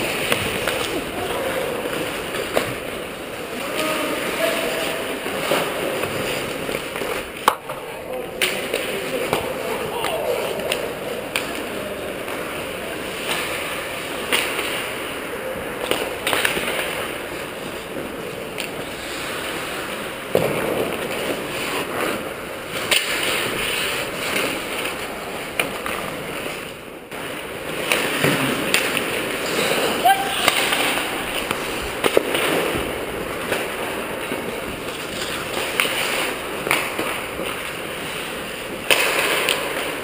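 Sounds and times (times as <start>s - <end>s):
hockey sticks and puck clacking: 0.0s - 40.0s
skates scraping ice: 0.0s - 40.0s.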